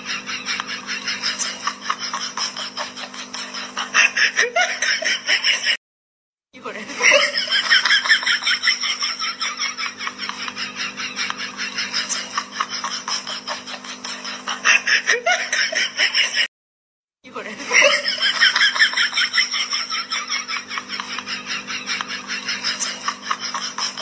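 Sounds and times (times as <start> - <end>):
laughter sound effect: 0.0 - 5.8, 6.7 - 16.5, 17.3 - 24.0.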